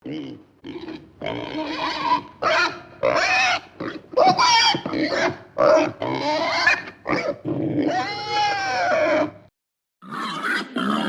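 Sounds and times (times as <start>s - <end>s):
pig squealing: 0.1s - 11.0s.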